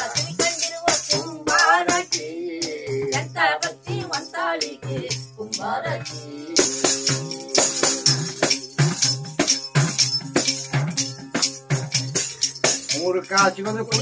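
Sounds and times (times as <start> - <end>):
tambourine beaten in rhythm: 0.0 - 14.0.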